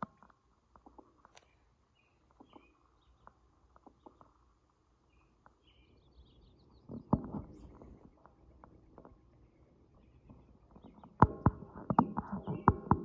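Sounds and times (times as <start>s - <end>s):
songbirds chirping faintly: 0.0s - 13.0s.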